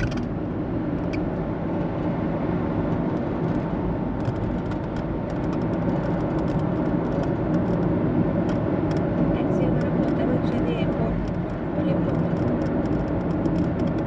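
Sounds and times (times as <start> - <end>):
car cabin road rumble: 0.0 - 14.0.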